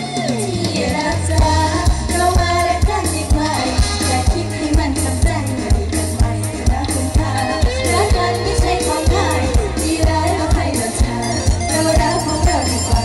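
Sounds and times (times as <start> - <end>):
bass line: 0.0 - 13.0
person singing: 0.0 - 13.0.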